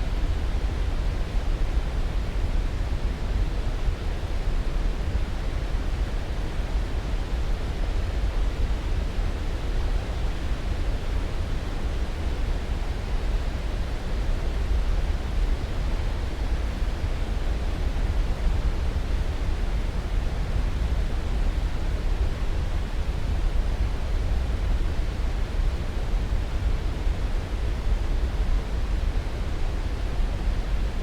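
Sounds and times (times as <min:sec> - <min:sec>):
deep steady hiss noise: 0:00.0 - 0:31.0.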